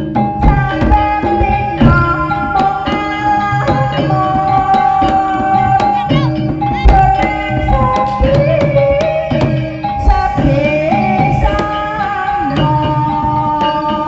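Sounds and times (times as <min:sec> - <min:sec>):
gamelan-style tones: 0:00.0 - 0:14.0
hand drum strokes: 0:00.0 - 0:14.0
held pitch-bending melody: 0:00.0 - 0:14.0.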